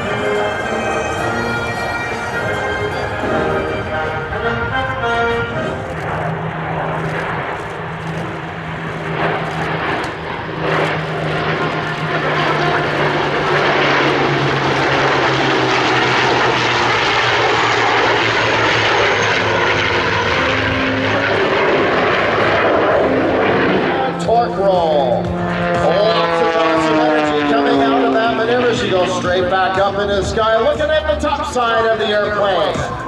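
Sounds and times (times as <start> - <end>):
propeller plane engine: 0.0 - 33.0.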